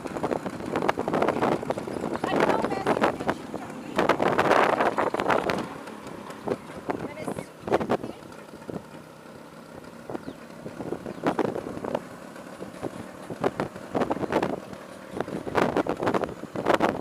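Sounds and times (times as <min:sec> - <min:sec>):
wind on microphone: 0:00.0 - 0:08.9, 0:10.0 - 0:17.0
scooter engine running: 0:00.0 - 0:17.0.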